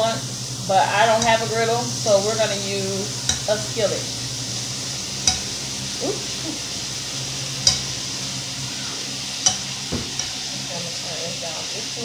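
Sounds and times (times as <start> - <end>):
butter sizzling in skillet: 0.0 - 12.0.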